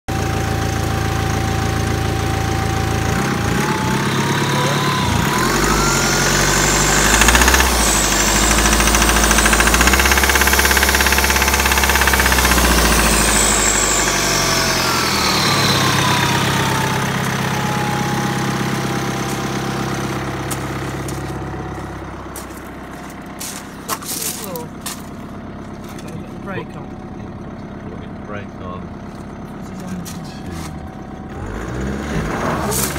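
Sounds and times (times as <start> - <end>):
diesel engine knocking and revving: 0.1 - 32.9.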